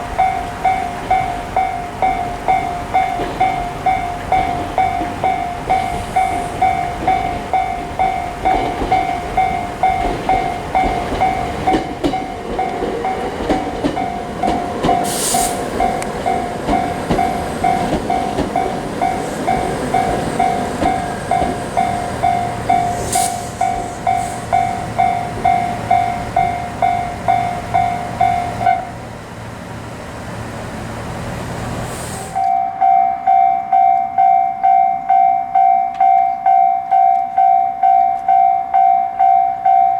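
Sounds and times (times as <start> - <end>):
railroad crossing bell ringing: 0.0 - 29.3, 32.4 - 39.9
low steady train hum: 0.0 - 39.9
passing train rumble: 0.0 - 39.9.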